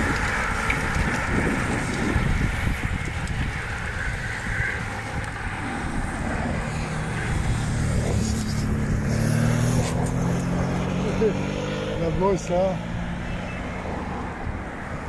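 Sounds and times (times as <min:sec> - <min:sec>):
car passing: 0:00.0 - 0:15.0
motorcycle engine hum: 0:00.0 - 0:15.0
wind buffeting microphone: 0:00.0 - 0:15.0.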